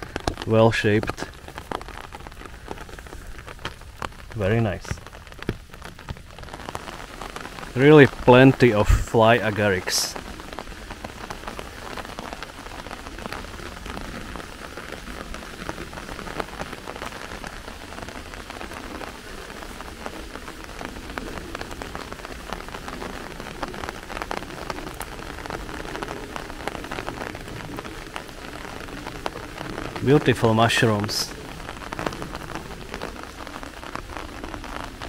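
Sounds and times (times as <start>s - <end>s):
raindrop ticks close by: 0.0s - 35.0s
steady rain: 0.0s - 35.0s.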